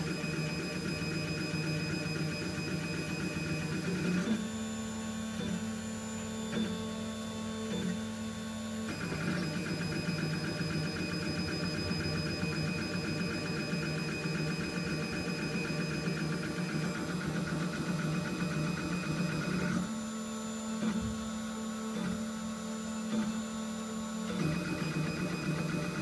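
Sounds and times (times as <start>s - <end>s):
steady printer hum: 0.0s - 26.0s.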